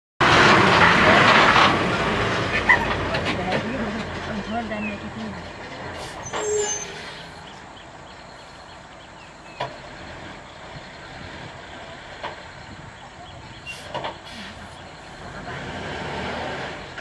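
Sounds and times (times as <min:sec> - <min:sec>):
bus diesel engine idling: 0:00.3 - 0:17.0.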